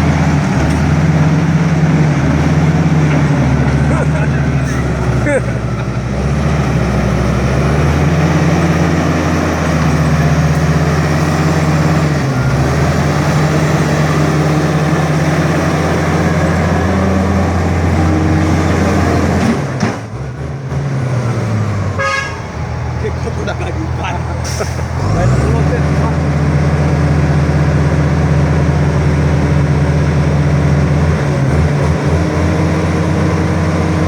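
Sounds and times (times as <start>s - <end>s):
heavy diesel engine under load: 0.0s - 34.0s.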